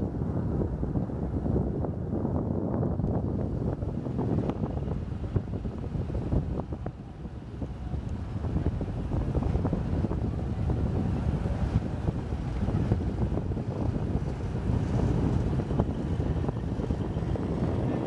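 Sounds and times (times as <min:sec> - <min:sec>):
speedboat engine rumble: 0:00.0 - 0:18.0
wind on microphone: 0:00.0 - 0:18.0.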